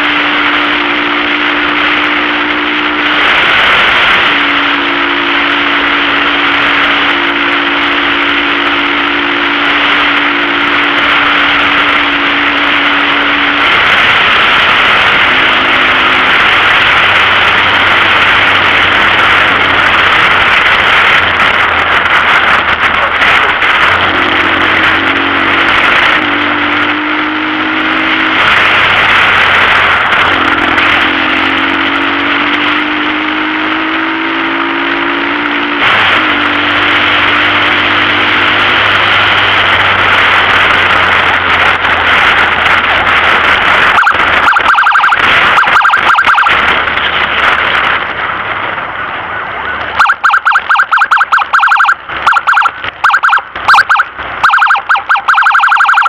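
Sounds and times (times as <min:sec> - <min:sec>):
loud engine and road noise: 0:00.0 - 0:56.0.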